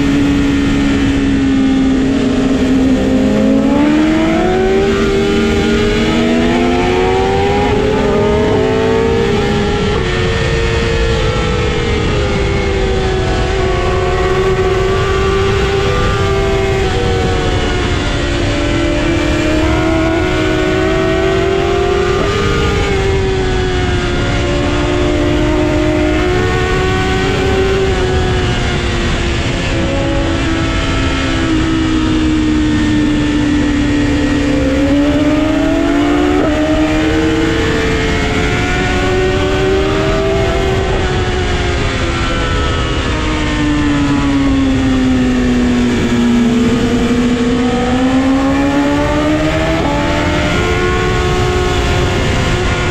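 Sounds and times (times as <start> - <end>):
motorcycle engine accelerating: 0.0 - 52.9
wind noise: 0.0 - 52.9.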